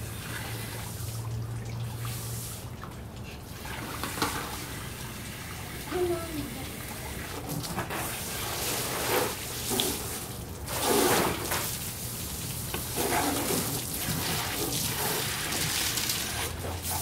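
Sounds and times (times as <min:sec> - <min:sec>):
hose water splashing on concrete: 0:00.0 - 0:17.0.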